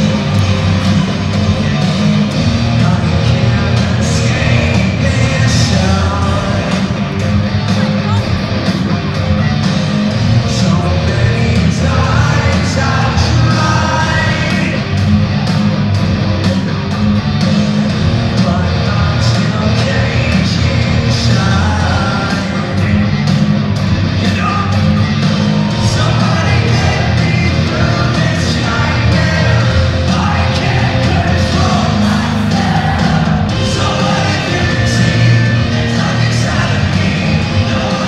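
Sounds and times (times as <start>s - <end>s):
live hard rock band: 0.0s - 38.0s.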